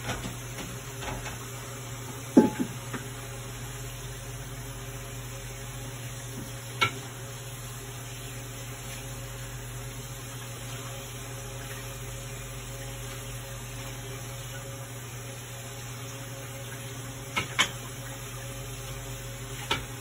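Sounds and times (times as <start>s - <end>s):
stockpot boiling with hiss: 0.0s - 20.0s.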